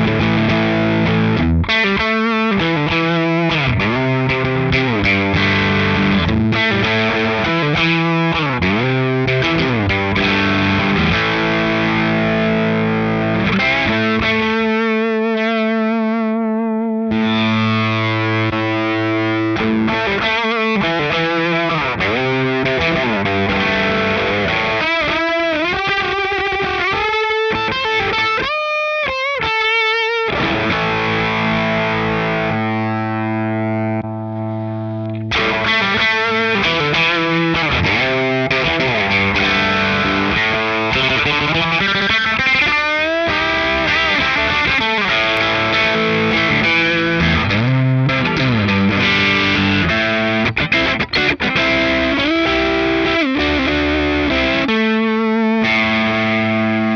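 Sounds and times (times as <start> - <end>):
distorted electric guitar lead: 0.0 - 56.9.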